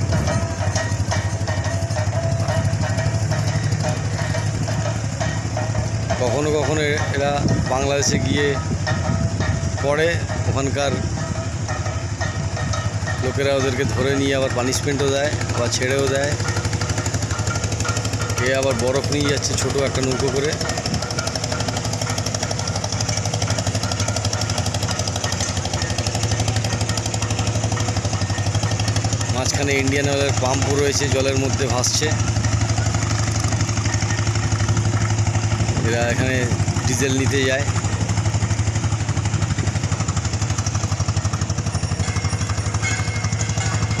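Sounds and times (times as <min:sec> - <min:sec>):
boat diesel engine chugging: 0:00.0 - 0:44.0.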